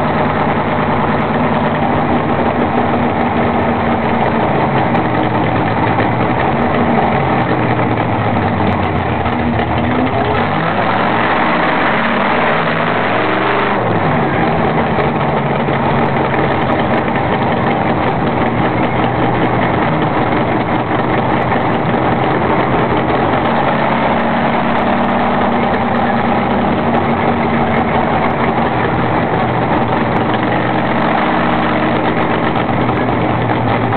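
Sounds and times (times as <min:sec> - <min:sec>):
race car engine accelerating: 0:00.0 - 0:33.9.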